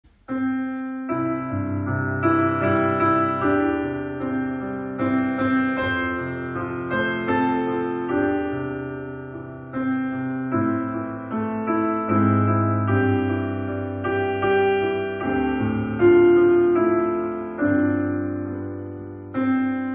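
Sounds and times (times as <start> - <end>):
slow solo piano chords: 0.1 - 19.9.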